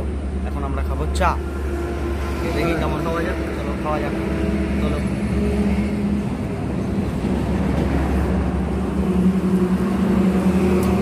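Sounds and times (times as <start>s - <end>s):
motor vehicle engine rumble: 0.0s - 11.0s
road traffic: 0.0s - 11.0s.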